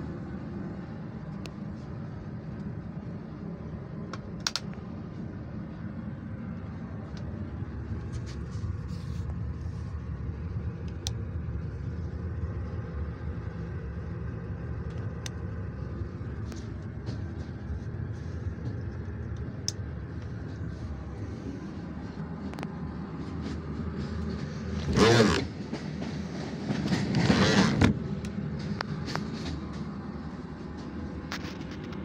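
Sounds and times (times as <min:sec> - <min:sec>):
train car low rumble: 0:00.0 - 0:32.0.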